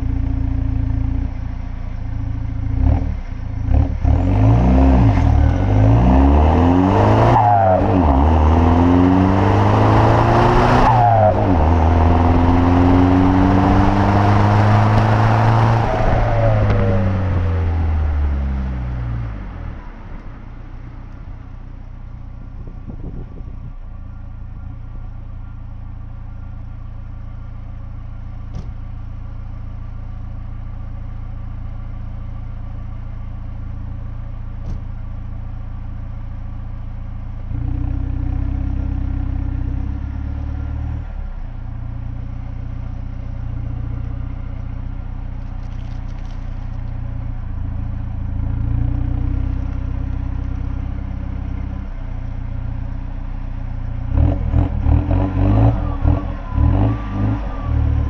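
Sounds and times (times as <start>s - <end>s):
car engine idling: 0.0s - 3.7s, 11.3s - 40.5s, 41.2s - 54.8s.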